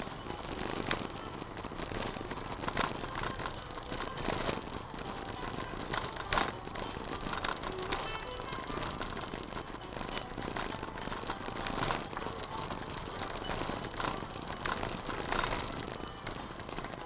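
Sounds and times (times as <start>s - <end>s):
gravel crackling under tyres: 0.0s - 17.0s
stones clicking: 0.0s - 17.0s.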